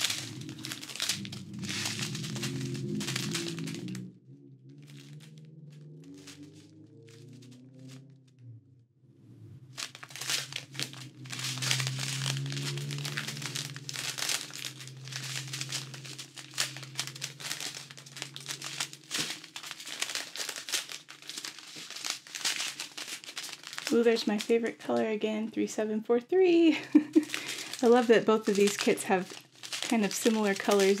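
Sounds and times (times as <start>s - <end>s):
thin plastic bags crinkling: 0.0s - 4.0s, 4.8s - 8.0s, 9.8s - 25.2s, 26.6s - 31.0s.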